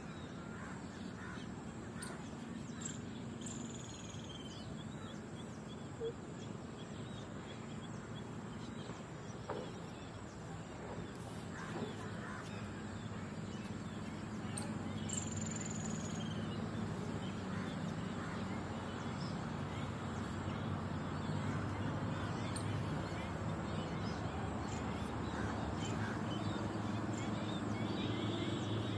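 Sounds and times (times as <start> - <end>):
birds calling: 0.0 - 28.9
road traffic rumble: 0.0 - 28.9.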